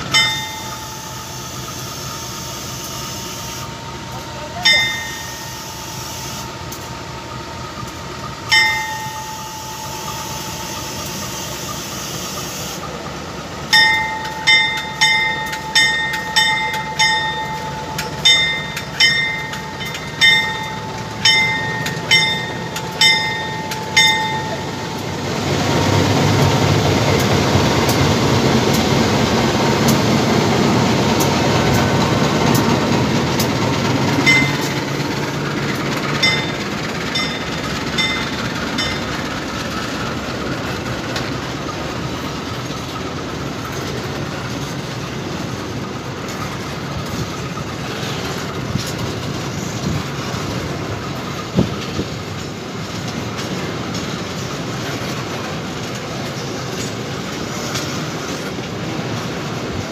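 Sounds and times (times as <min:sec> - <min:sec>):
locomotive bell clanging: 0:00.0 - 0:59.8
train wheels rumbling on rail: 0:00.0 - 0:59.9.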